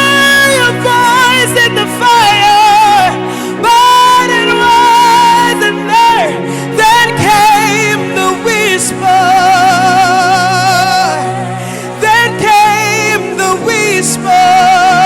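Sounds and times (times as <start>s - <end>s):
person singing with vibrato: 0.0s - 15.0s
sustained chords: 0.0s - 15.0s.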